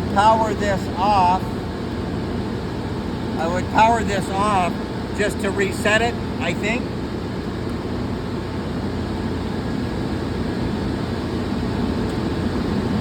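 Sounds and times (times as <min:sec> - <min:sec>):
low machinery noise: 0:00.0 - 0:13.0.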